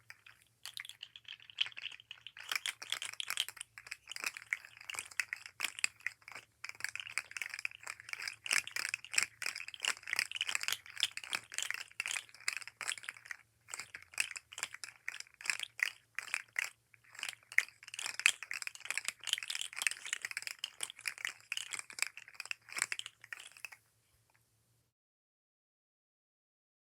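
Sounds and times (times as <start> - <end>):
plastic toy segments clicking: 0.0 - 23.8.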